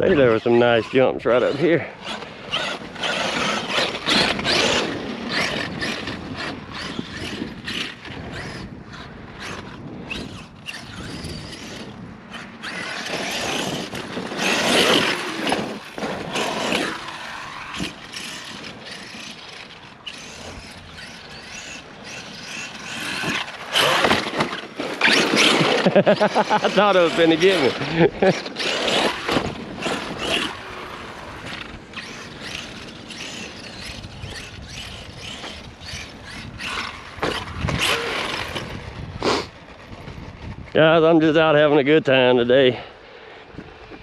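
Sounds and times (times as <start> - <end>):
electric motor whining: 0.0 - 40.6
tyres churning soft dirt: 0.0 - 44.0.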